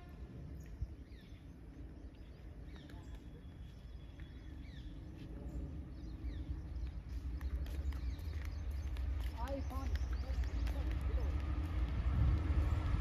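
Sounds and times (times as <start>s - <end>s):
birds chirping: 0.0s - 13.0s
distant train rumble: 0.0s - 13.0s.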